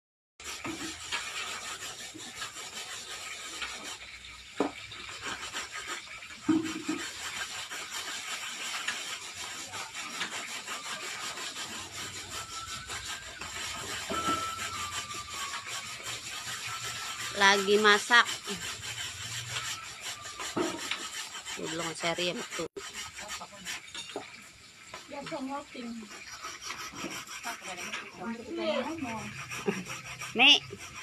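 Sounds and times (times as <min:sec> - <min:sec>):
metal spatula scraping wok: 0:00.4 - 0:31.0.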